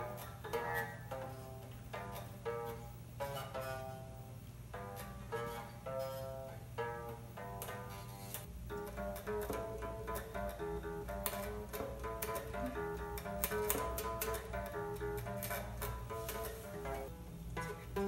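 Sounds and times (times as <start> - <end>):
electric guitar plucked notes: 0.0 - 18.0.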